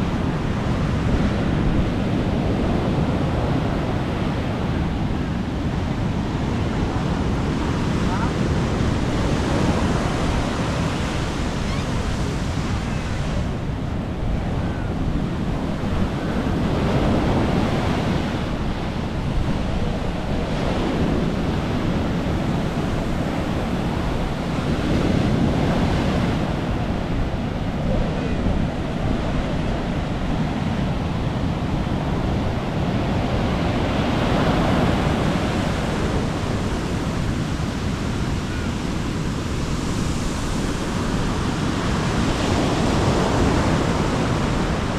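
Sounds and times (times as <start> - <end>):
sea surf breaking on beach: 0.0 - 44.9.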